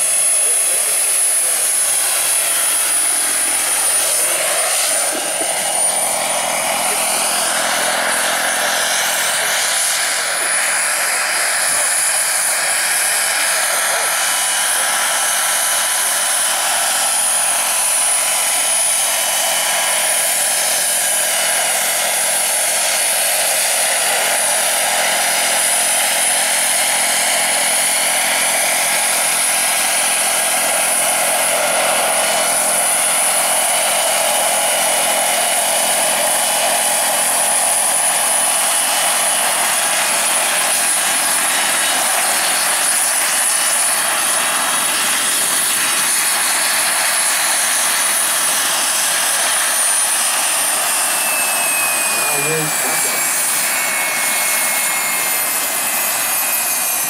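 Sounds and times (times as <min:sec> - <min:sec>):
helicopter rotor turning: 0:00.0 - 0:57.0
turbine engine whine: 0:00.0 - 0:57.0.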